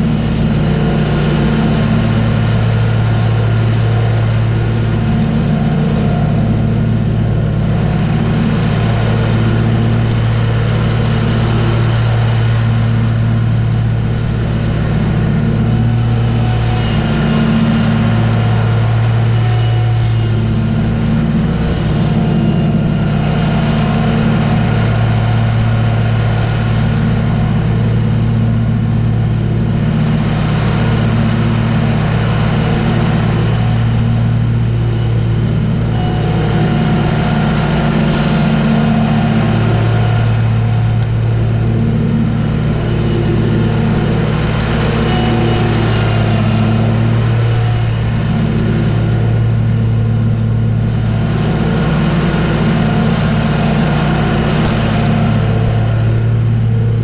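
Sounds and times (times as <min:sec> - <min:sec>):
faint whine: 0:00.0 - 0:57.0
lawn mower engine drone: 0:00.0 - 0:57.0.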